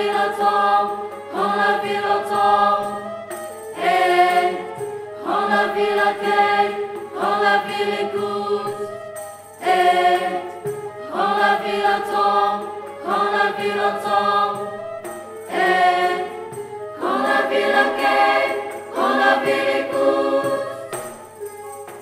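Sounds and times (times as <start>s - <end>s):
mixed choir singing: 0.0s - 9.0s, 9.6s - 21.2s
gamelan ensemble: 0.0s - 22.0s.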